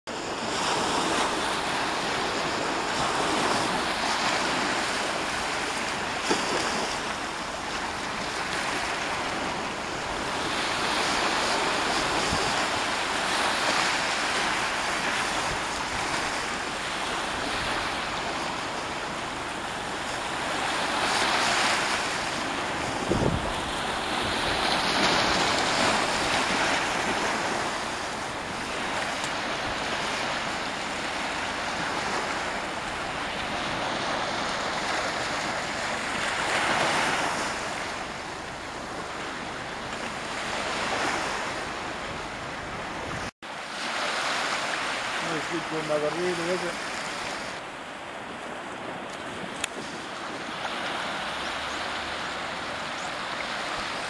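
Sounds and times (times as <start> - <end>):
wind on microphone: 0.1 - 43.3, 46.6 - 54.0
small waves breaking on beach: 0.1 - 54.0.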